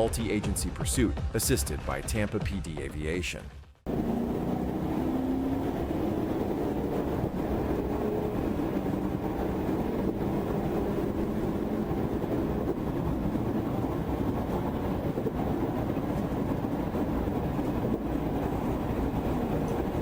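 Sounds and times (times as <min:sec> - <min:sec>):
car engine and road noise: 0:03.8 - 0:20.0.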